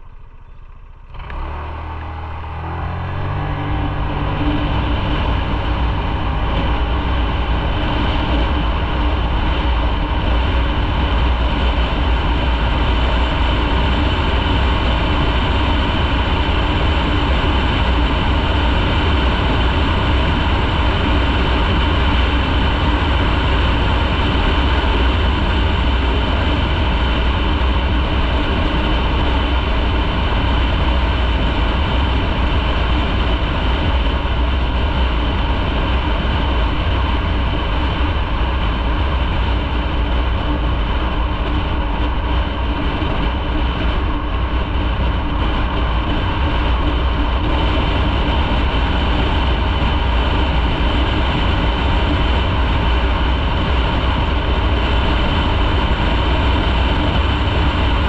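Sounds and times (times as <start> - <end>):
motorcycle cruising: 0.0 - 58.0.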